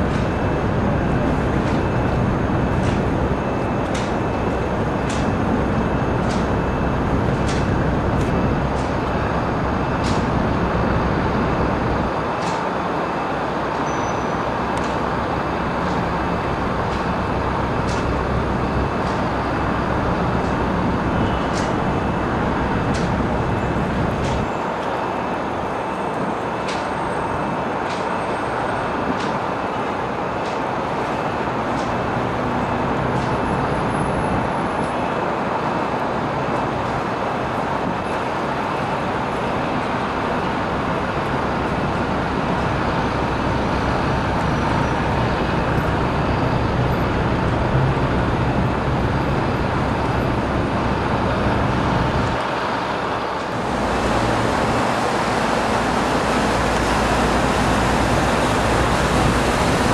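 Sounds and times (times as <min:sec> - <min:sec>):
street traffic hum: 0:00.0 - 0:59.9.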